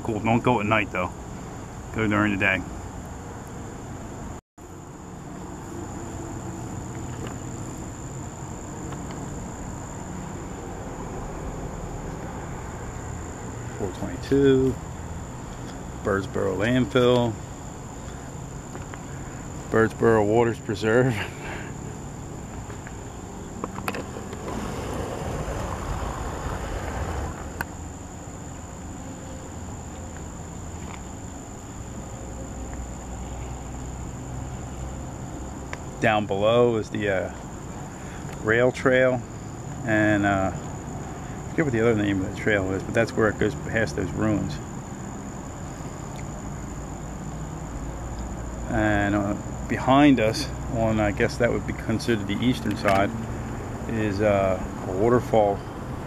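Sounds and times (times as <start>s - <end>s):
high-pitched insect drone: 0.3s - 56.0s.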